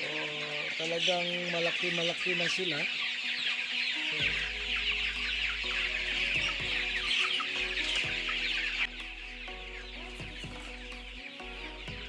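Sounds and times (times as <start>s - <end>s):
chickens cheeping: 0.0s - 12.0s.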